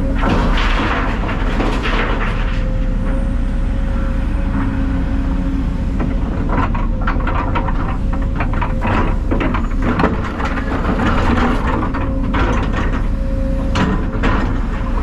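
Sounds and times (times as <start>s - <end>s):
rattles and knocks: 0.0s - 3.2s, 6.0s - 15.0s
diesel engine running: 0.0s - 15.0s.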